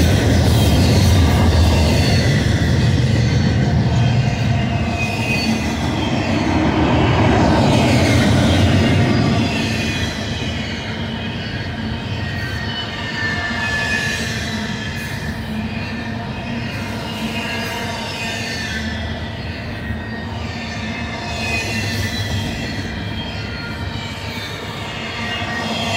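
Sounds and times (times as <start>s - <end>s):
high-pitched wheel squeals: 0.0s - 25.9s
train wheels rumbling on rail: 0.0s - 25.9s.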